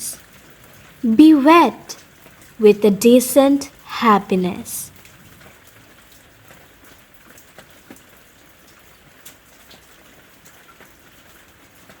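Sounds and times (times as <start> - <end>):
light rain falling: 0.0 - 12.0
raindrops ticking: 0.0 - 12.0.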